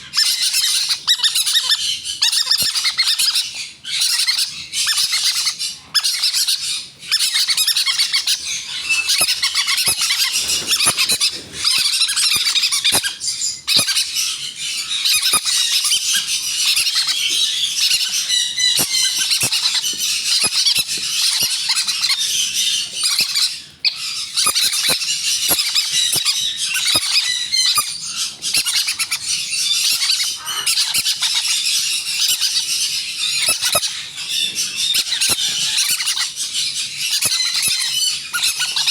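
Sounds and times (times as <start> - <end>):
parrot chicks squawking: 0.0 - 38.9.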